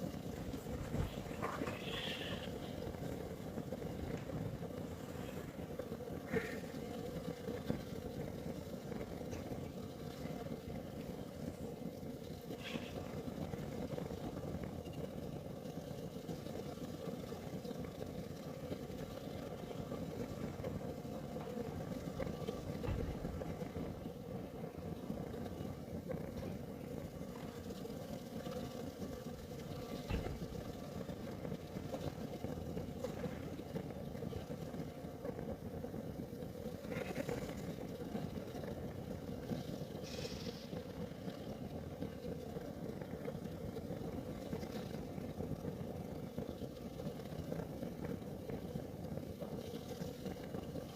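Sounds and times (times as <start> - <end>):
heater burning with low rumble: 0.0 - 50.9
hissy flame flickers: 0.0 - 50.9.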